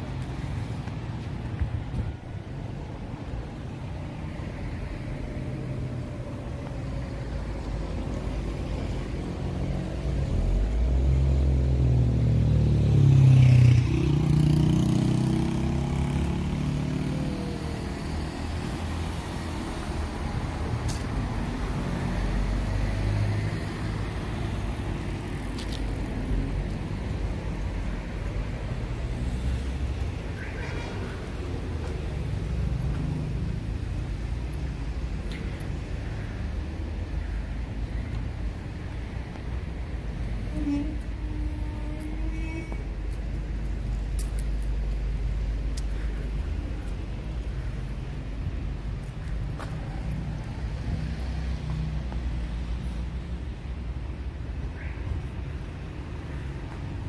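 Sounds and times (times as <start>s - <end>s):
city street traffic: 0.0s - 57.0s.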